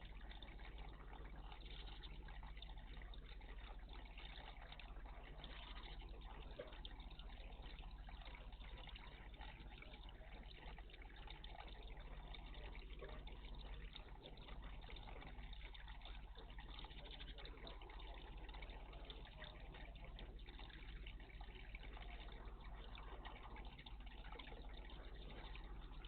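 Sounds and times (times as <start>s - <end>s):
low steady hum: 0.0s - 26.0s
water trickling and dripping: 0.0s - 26.0s.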